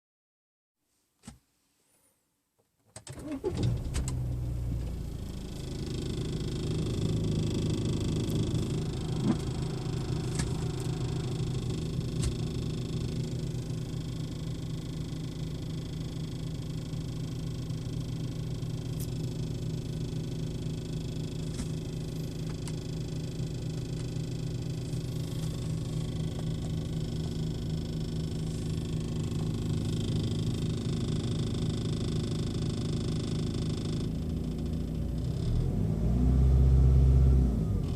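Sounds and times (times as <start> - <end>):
diesel engine idling: 3.3 - 35.8
rattle: 4.8 - 35.6.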